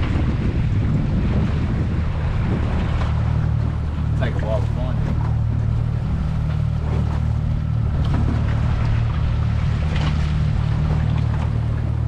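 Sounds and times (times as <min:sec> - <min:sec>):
outboard motor running: 0:00.0 - 0:12.0
water noise: 0:00.0 - 0:12.0
wind: 0:00.0 - 0:12.0.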